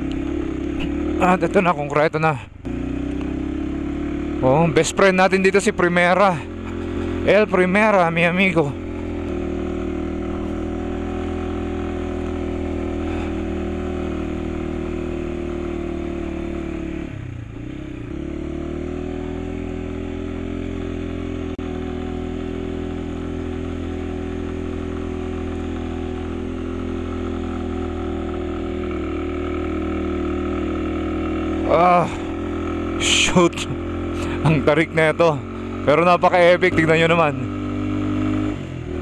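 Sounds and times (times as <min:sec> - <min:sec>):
motorcycle engine under load: 0:00.0 - 0:39.0.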